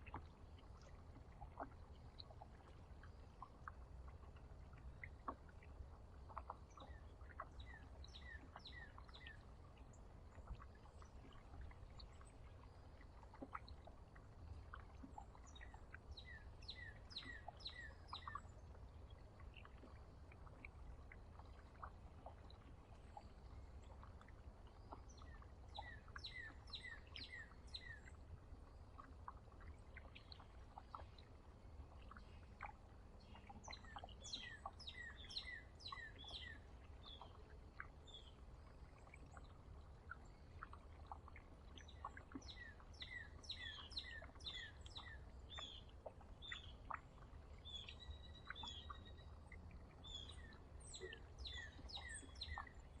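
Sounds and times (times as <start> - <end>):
faint low rumble: 0.0 - 53.0
songbirds chirping: 0.0 - 53.0.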